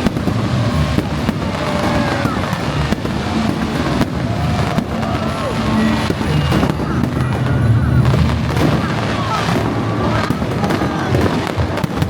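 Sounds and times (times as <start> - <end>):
fireworks bangs and crackling: 0.0 - 12.0
fireworks whistling: 0.0 - 12.0
low music: 0.0 - 12.0.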